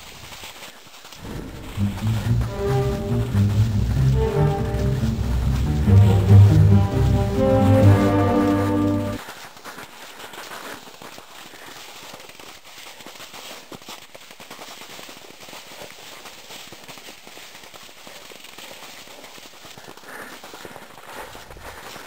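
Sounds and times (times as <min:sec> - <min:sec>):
skis crunching over snow: 0:00.0 - 0:22.0.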